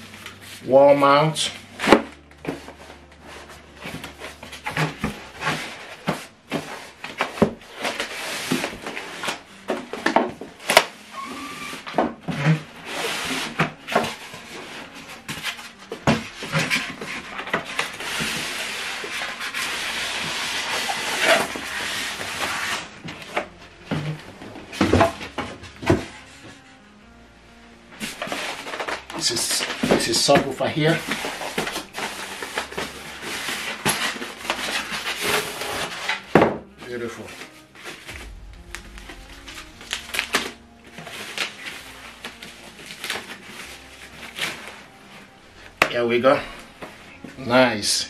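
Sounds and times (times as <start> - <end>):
cardboard and foam scraping: 0.0 - 9.9, 11.2 - 26.6, 28.0 - 45.2.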